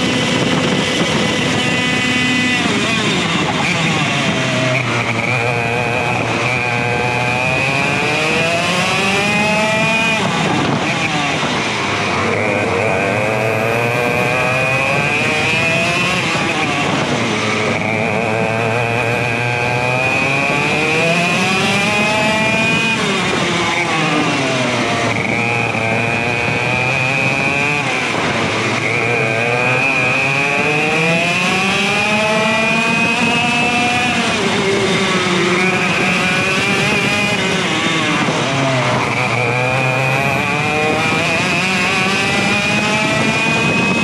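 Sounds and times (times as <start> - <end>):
kart engine revving: 0.0 - 44.0.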